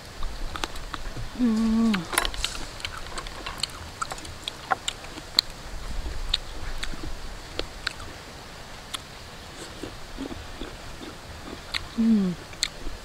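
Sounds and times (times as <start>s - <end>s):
faint low rumble: 0.0s - 13.0s
person chewing food: 0.2s - 13.0s.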